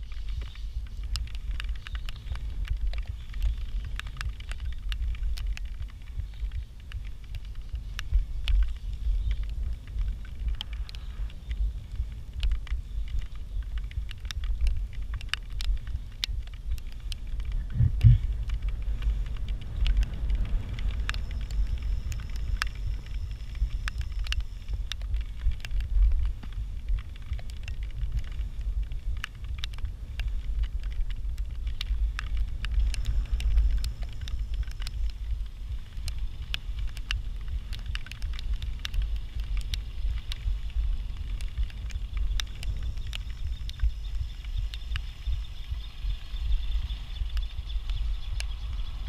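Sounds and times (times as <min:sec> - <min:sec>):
bicycle clicks and ticks: 0:00.0 - 0:49.0
wind buffeting microphone: 0:00.0 - 0:49.0.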